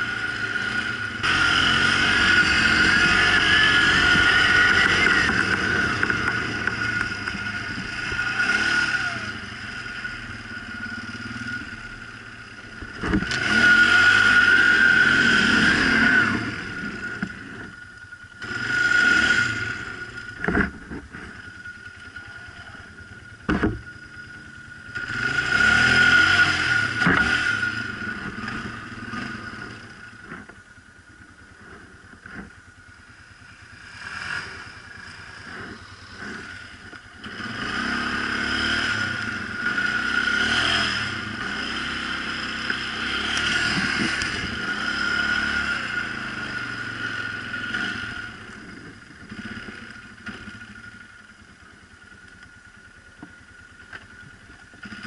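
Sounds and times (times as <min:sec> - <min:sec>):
quad bike engine revving: 0:00.0 - 0:30.6, 0:31.3 - 0:55.0.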